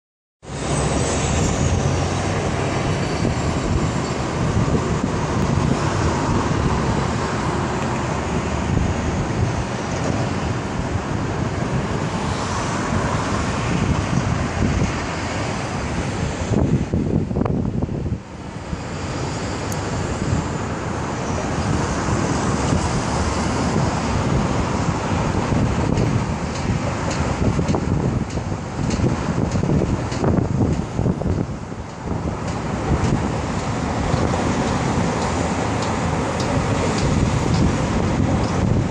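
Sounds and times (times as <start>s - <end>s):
heavy vehicle engine rumble: 0.4s - 38.9s
road traffic noise: 0.4s - 38.9s
wind buffeting microphone: 0.5s - 38.9s.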